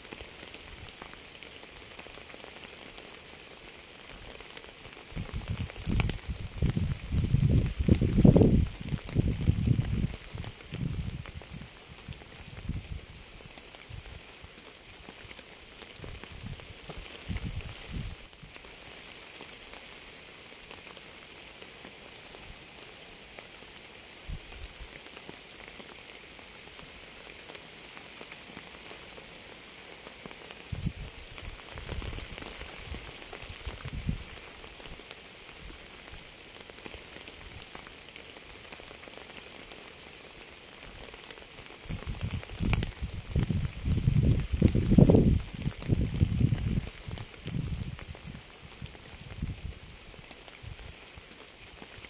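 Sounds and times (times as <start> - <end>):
steady rain patter: 0.0 - 52.0.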